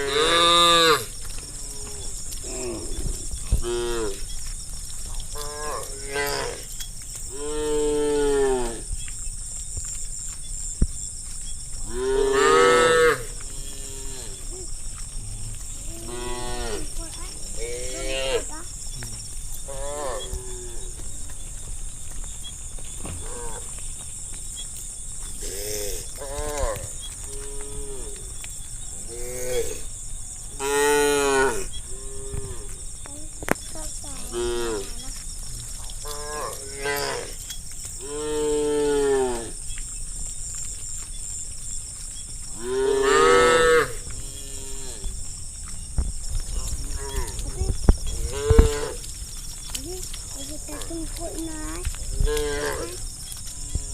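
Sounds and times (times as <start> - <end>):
steady high-pitched hiss: 0.0 - 53.9.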